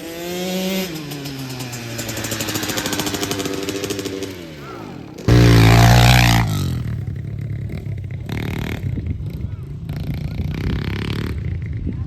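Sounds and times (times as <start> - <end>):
dirt bike engine revving: 0.0 - 11.8.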